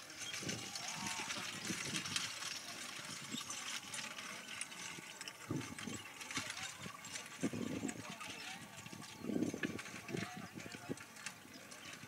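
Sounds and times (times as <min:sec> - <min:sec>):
carriage and harness rattling: 0:00.0 - 0:12.0.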